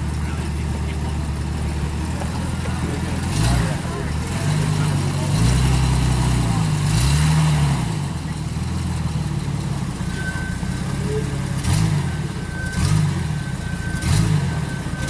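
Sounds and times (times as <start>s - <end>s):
engine throttle blips: 0.0s - 15.0s
off-road vehicle engine running: 0.0s - 15.0s.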